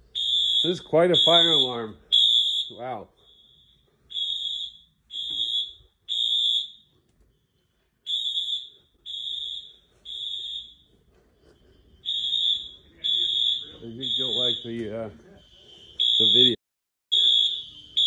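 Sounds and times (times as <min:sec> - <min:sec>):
fire alarm horn beeps: 0:00.0 - 0:07.1, 0:08.0 - 0:18.0.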